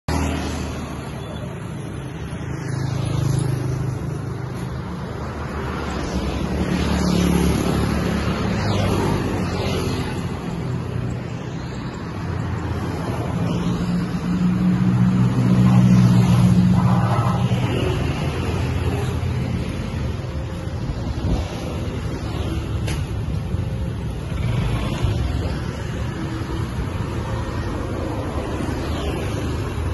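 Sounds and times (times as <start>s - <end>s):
vehicles passing: 0.0s - 29.9s
vehicle engine humming: 0.1s - 29.9s.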